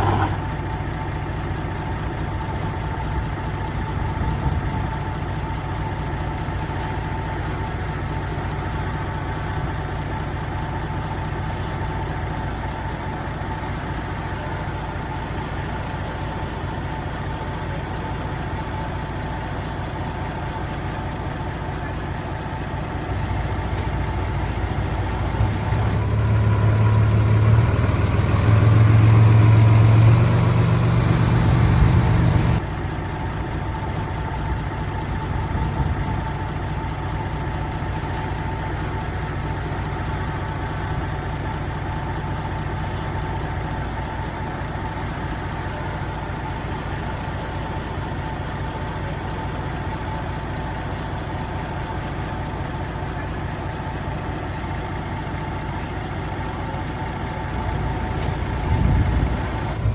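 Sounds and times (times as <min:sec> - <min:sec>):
heavy diesel machinery engine: 0:00.0 - 0:59.9.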